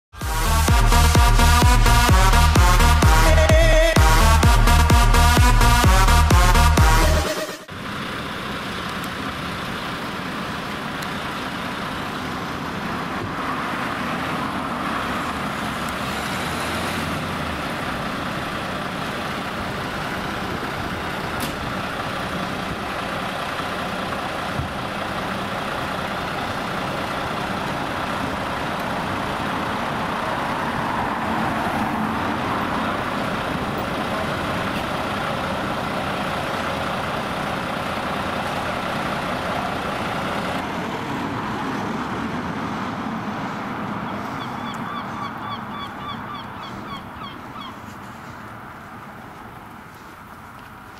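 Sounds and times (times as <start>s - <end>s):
road traffic passing: 0.1s - 50.9s.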